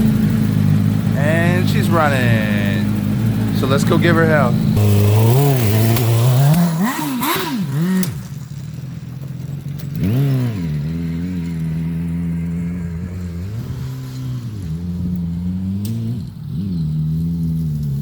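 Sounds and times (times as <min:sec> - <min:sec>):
small gasoline engine revving and idling: 0:00.0 - 0:18.0.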